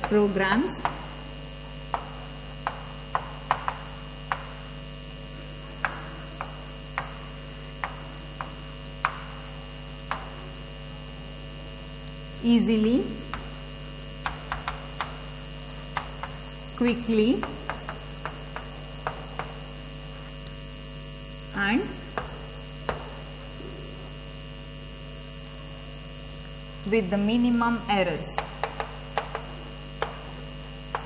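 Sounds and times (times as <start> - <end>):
steady electrical hum: 0.0 - 31.0.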